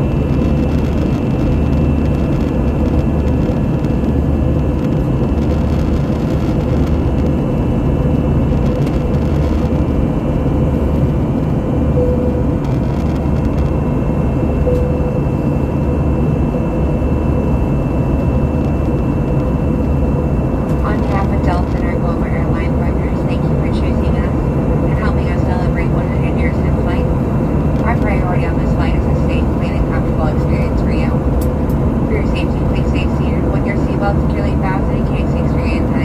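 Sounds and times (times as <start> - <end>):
faint constant whine: 0.0 - 36.0
jet engine rumble in cabin: 0.0 - 36.0.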